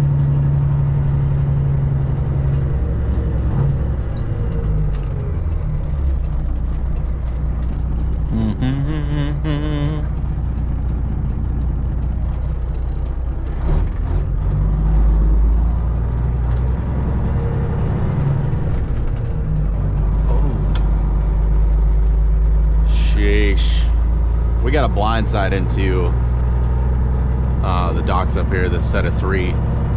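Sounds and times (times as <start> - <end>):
truck diesel engine droning: 0.0 - 29.9.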